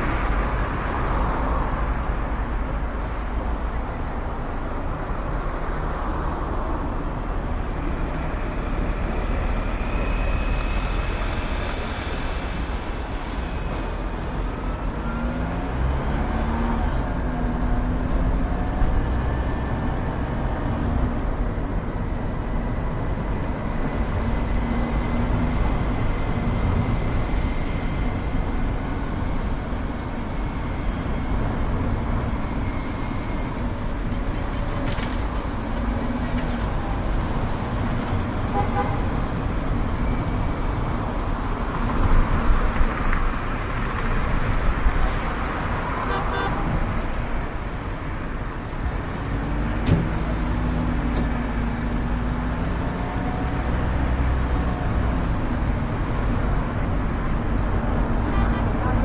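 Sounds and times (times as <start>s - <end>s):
road and traffic noise: 0.0s - 59.0s.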